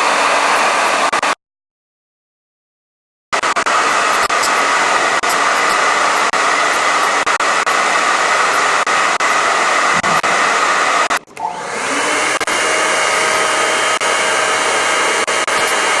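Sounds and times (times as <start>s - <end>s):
hair dryer running: 0.0s - 1.4s, 3.4s - 16.0s.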